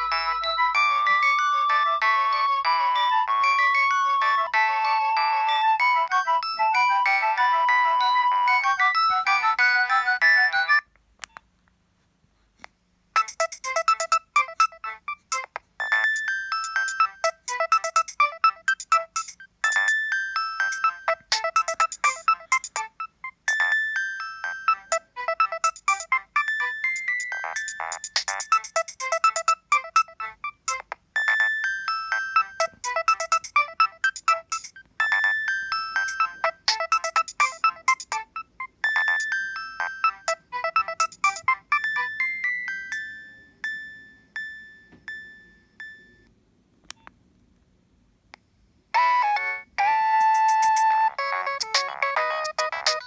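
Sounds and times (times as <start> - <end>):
mobile phone ringtone melody: 0.0 - 10.9, 13.2 - 46.3, 49.0 - 53.0.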